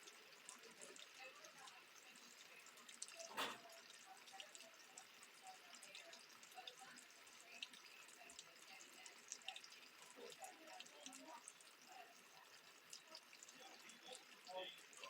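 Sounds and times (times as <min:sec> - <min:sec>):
soft rain hiss: 0:00.0 - 0:15.0
water drops ticking: 0:00.0 - 0:15.0.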